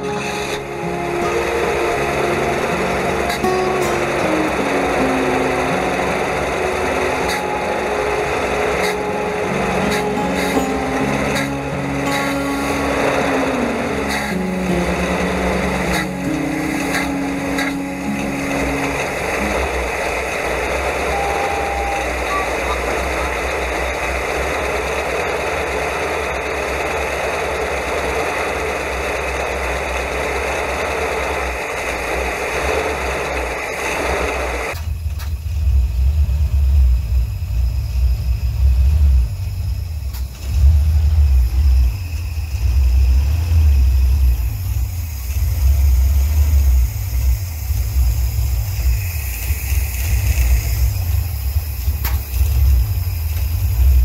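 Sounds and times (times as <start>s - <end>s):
engine running: 0.0s - 54.0s
heavy uneven low rumble: 0.0s - 54.0s.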